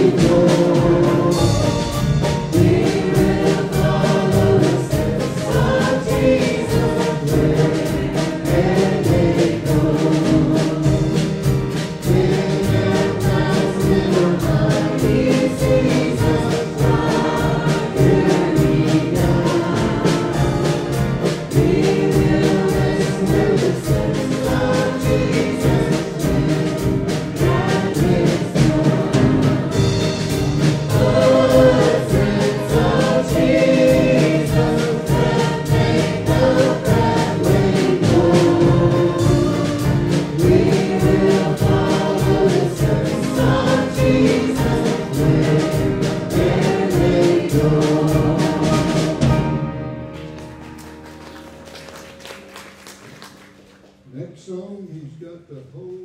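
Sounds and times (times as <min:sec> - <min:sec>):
women singing in harmony: 0:00.0 - 0:11.3, 0:12.0 - 0:30.1, 0:30.9 - 0:49.5.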